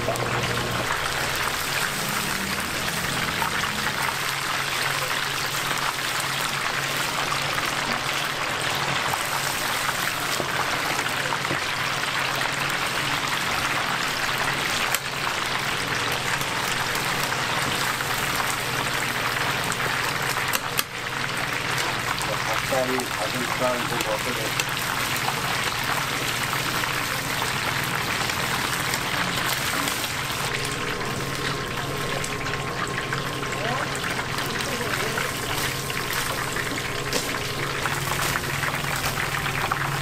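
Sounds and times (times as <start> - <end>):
chicken deep-frying in oil: 0.0 - 40.0.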